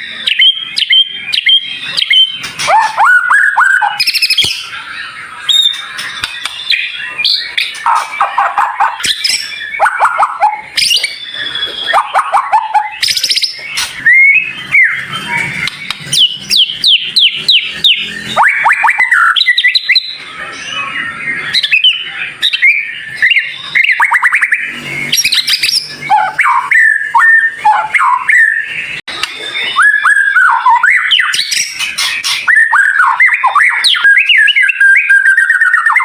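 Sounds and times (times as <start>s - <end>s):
songbird whistled phrases and trills: 0.0s - 36.0s.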